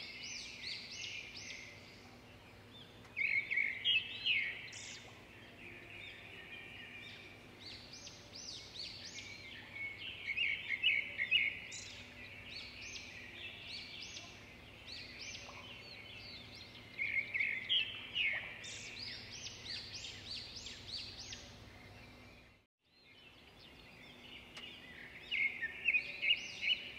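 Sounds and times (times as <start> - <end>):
small birds chirping and singing: 0.0 - 26.9.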